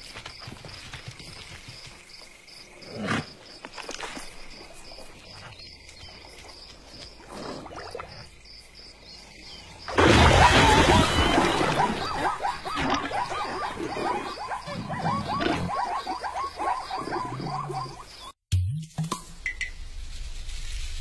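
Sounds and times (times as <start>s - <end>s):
insect chirping: 0.0s - 18.4s.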